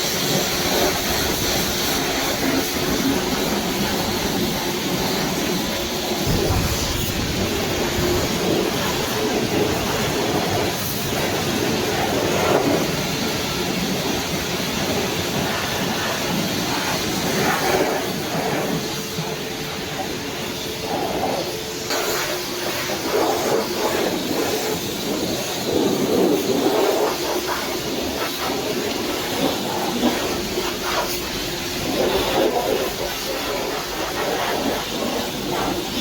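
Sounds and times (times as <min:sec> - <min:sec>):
pressure washer spraying water: 0:00.0 - 0:36.0.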